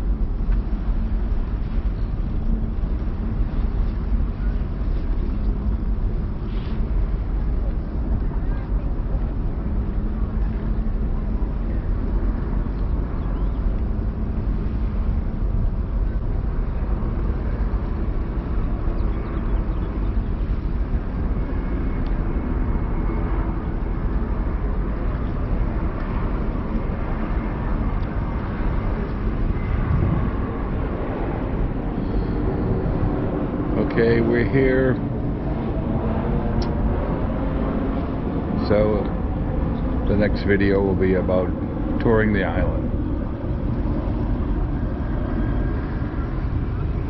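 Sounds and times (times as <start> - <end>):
ferry engines droning: 0.0 - 47.0.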